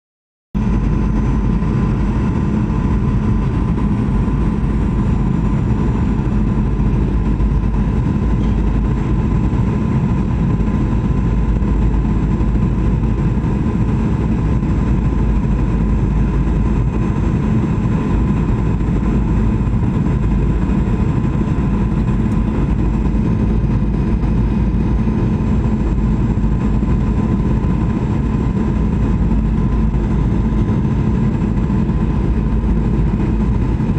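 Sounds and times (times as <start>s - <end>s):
engine low roar and hum: 0.6s - 33.9s.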